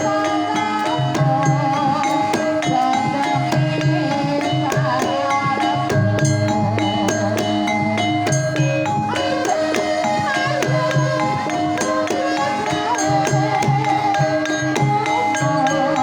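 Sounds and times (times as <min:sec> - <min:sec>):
hand drum strokes: 0:00.0 - 0:16.0
metallophones ringing: 0:00.0 - 0:16.0
person singing: 0:00.0 - 0:16.0.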